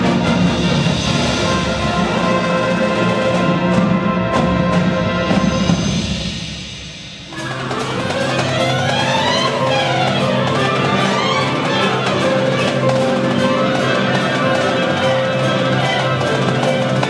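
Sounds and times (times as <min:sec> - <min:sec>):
marching band brass playing: 0:00.0 - 0:06.6, 0:07.2 - 0:17.0.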